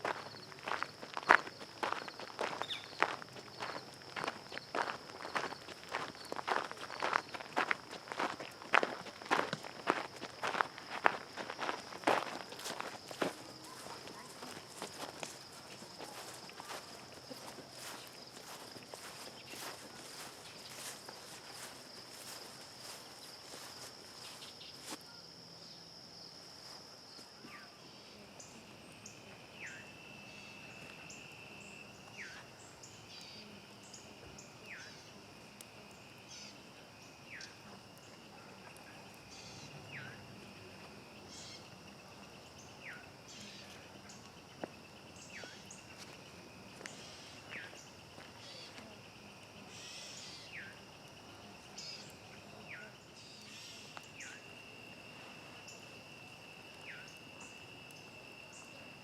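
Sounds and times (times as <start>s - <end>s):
campfire crackles: 0.0s - 27.4s, 28.2s - 59.0s
crickets trilling: 0.0s - 59.0s.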